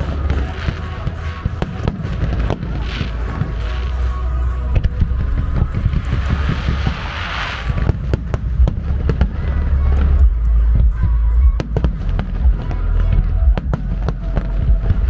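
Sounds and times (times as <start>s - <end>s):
crackling hiss: 0.0s - 13.0s
fireworks bangs and pops: 0.0s - 15.0s
low rumble: 0.0s - 15.0s.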